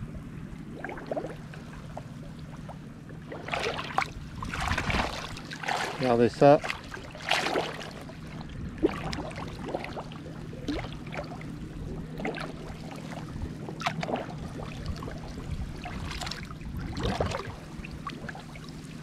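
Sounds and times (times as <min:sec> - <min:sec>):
sea water sloshing around legs: 0:00.1 - 0:19.0
small splashes of feet: 0:00.7 - 0:11.4, 0:12.1 - 0:18.7.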